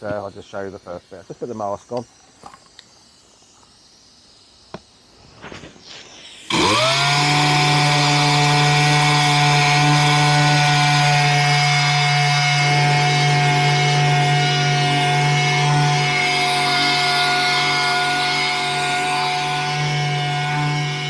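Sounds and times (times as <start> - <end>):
orbital sander whining: 0.0 - 21.0.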